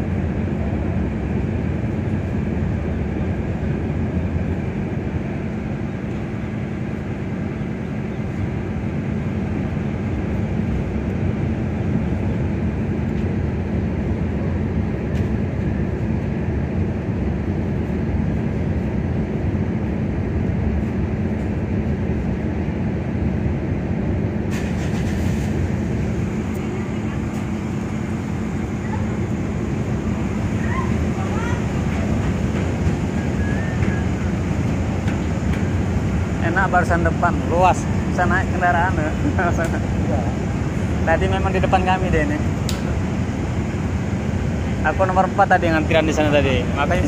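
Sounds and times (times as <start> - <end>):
diesel engines rumbling: 0.0 - 47.0.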